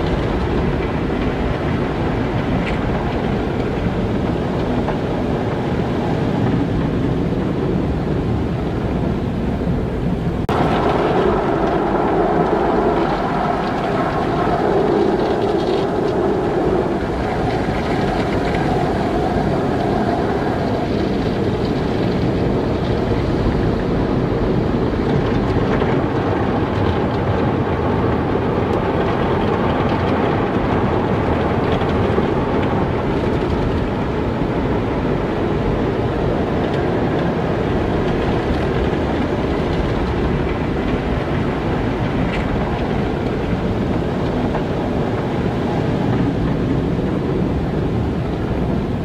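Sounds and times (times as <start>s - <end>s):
car wash machinery rumble: 0.0s - 49.0s.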